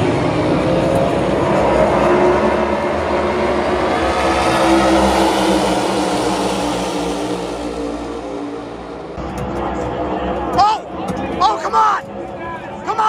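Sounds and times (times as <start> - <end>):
race cars roaring past: 0.0 - 13.0.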